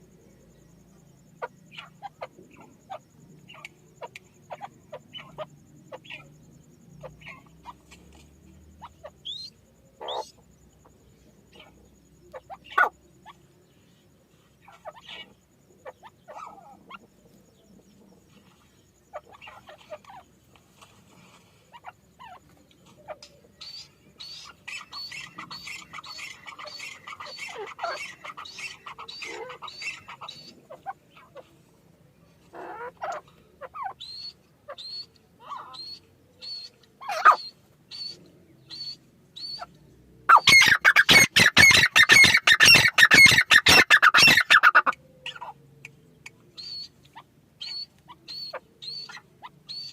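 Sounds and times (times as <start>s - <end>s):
francolins calling: 0.0s - 31.7s, 32.3s - 49.9s.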